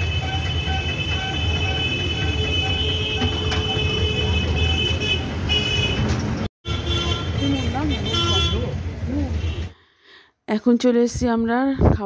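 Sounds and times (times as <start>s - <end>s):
street rumble: 0.0s - 9.9s.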